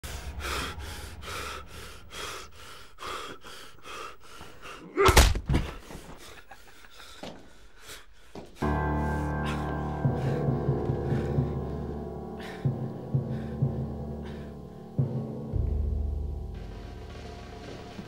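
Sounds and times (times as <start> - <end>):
man breathing heavily: 0.0 - 5.0, 5.6 - 16.6.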